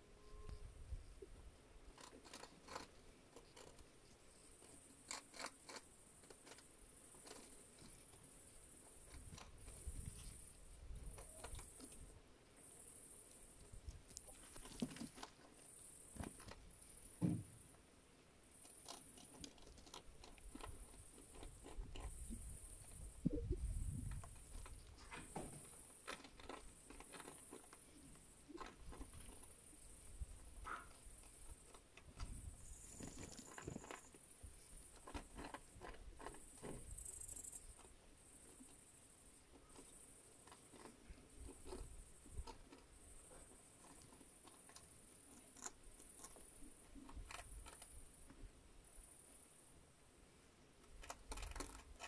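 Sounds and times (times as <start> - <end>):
rabbits nibbling and crunching: 0.0 - 52.0.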